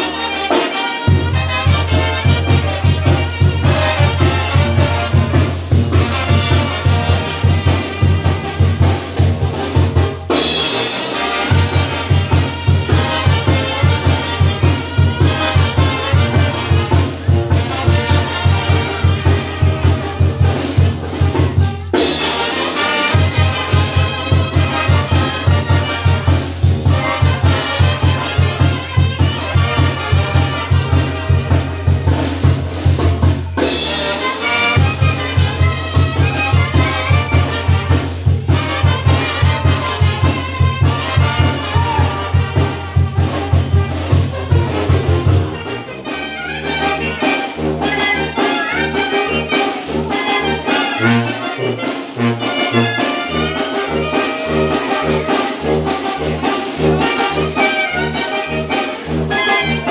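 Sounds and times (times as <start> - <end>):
brass band playing: 0.0 - 59.9
trumpets and clarinet melody: 0.0 - 59.9
tuba pumping a beat: 0.0 - 59.9.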